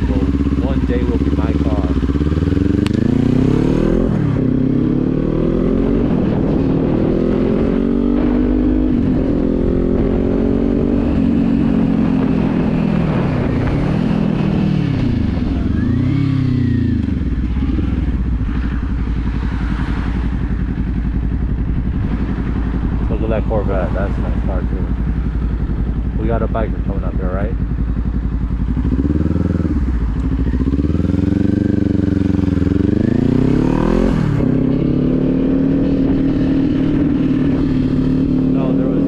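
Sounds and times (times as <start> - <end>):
motorcycle engine through gears: 0.0 - 39.0.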